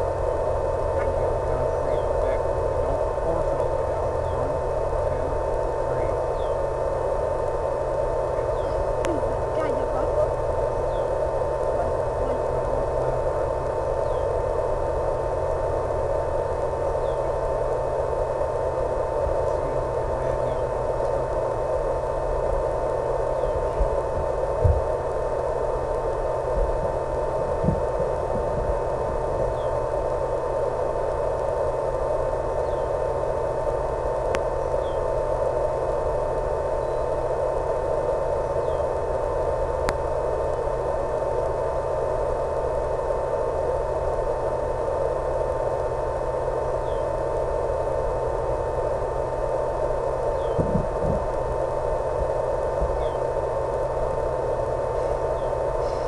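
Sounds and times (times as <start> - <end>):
constant high tone: 0.0 - 56.0
low hum: 0.0 - 56.0
static hiss: 0.0 - 56.0.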